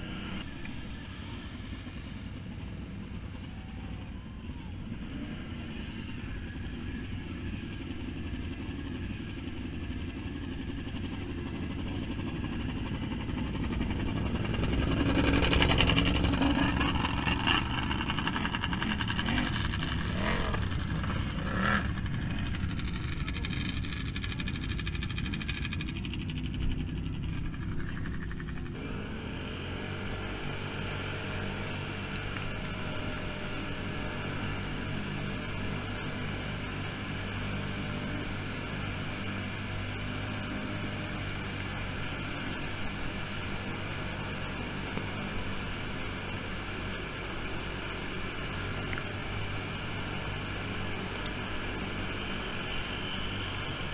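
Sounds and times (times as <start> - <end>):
quad bike engine running: 0.0 - 53.9.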